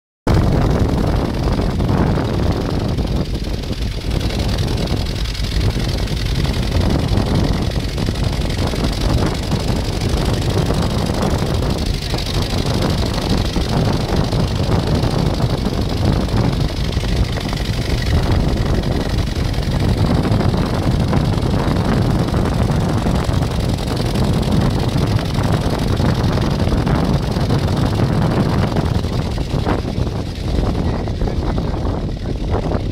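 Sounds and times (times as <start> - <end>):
vehicle engine and road noise: 0.3 - 32.9
wind on microphone: 0.3 - 32.9.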